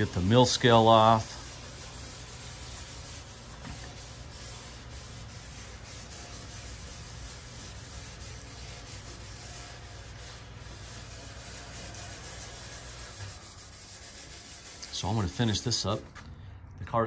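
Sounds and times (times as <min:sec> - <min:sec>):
gloved hand scrubbing steel sheet: 0:00.0 - 0:16.1.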